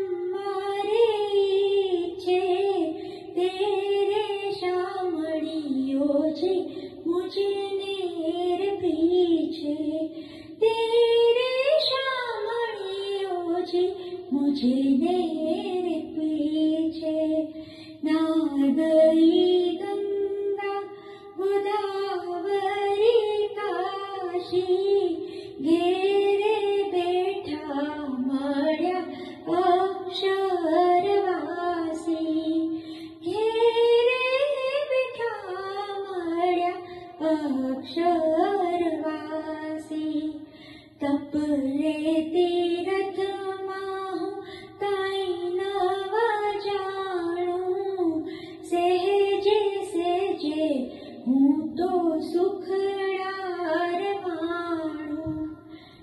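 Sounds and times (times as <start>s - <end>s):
woman singing devotional song: 0.0s - 56.0s.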